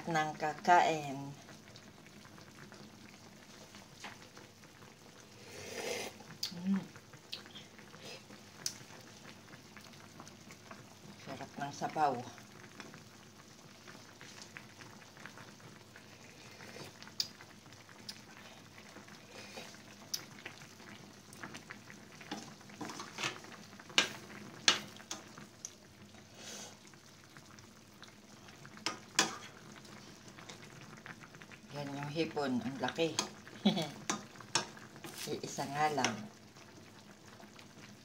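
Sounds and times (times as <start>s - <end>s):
broth simmering with bubbling hiss: 0.0s - 38.0s.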